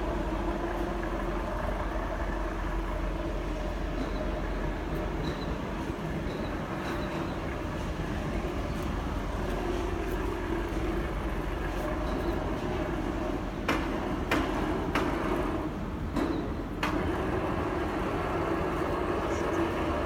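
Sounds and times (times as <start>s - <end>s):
heavy truck engine rumbling: 0.0s - 20.0s.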